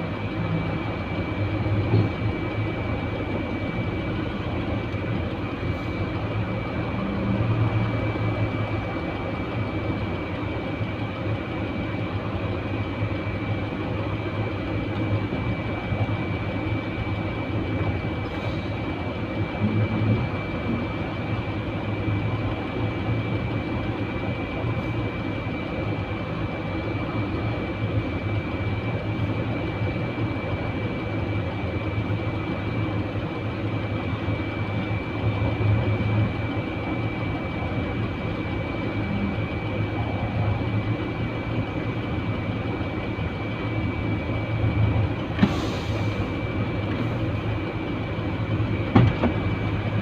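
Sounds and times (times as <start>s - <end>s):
high-pitched whine: 0.0s - 50.0s
truck engine rumbling: 0.0s - 50.0s.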